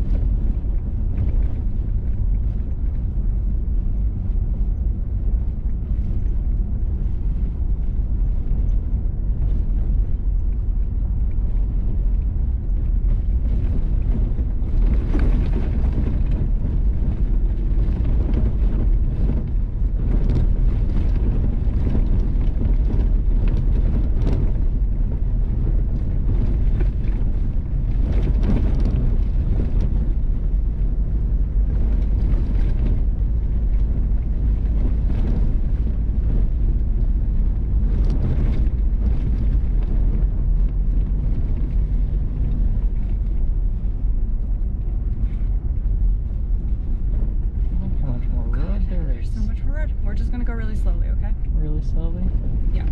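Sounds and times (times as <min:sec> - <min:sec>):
vehicle driving on gravel: 0:00.0 - 0:52.9
wind noise: 0:00.0 - 0:52.9.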